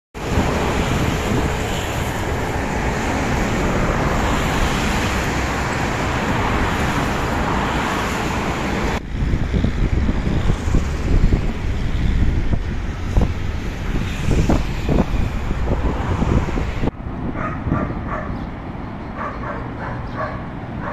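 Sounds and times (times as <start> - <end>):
road traffic hiss: 0.2 - 20.9
wind buffeting microphone: 0.2 - 20.9.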